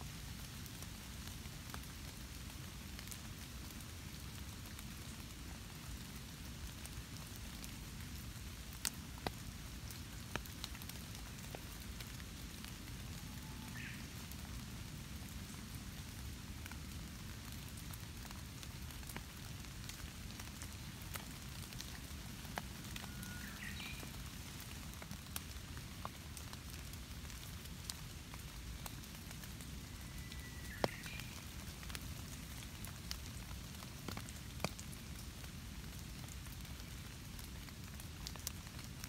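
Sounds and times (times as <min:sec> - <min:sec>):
rain on leaves: 0:00.0 - 0:39.0.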